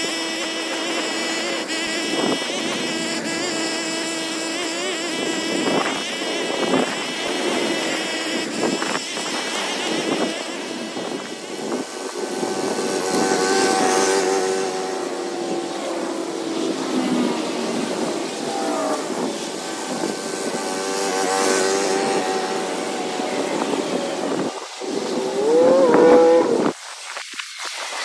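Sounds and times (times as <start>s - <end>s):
small gas engine running: 0.0s - 26.7s.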